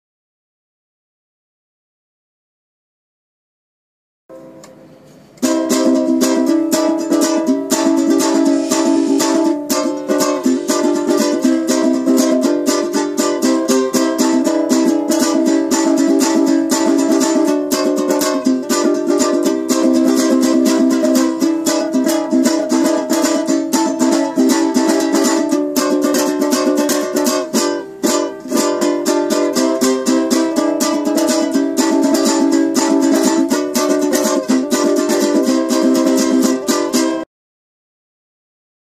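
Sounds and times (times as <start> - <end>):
ukulele strummed chords: 4.3 - 37.3.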